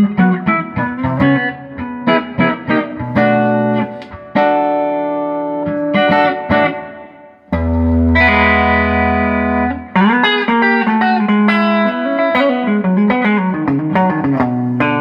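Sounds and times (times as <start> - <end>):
electric guitar notes and chords: 0.0 - 15.0.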